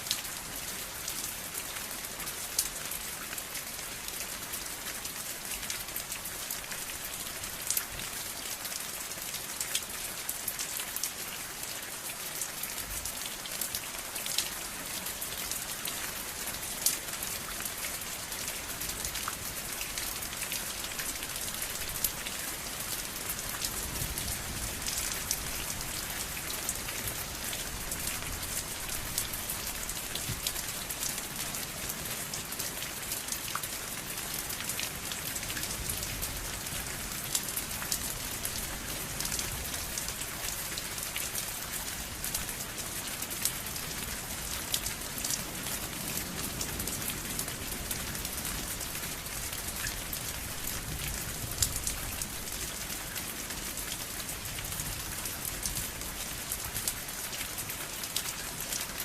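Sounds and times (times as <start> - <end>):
raindrops ticking on a surface: 0.0 - 59.0
steady rain falling: 0.0 - 59.0.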